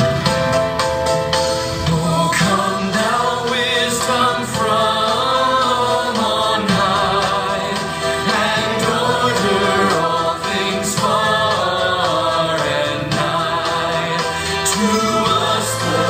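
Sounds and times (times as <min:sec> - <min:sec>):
instrumental accompaniment: 0:00.0 - 0:16.0
congregation singing a hymn: 0:01.9 - 0:16.0.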